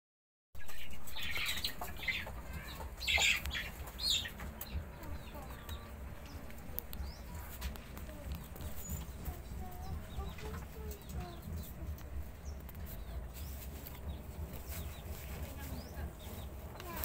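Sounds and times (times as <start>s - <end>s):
steady low rumble: 2.3s - 17.0s.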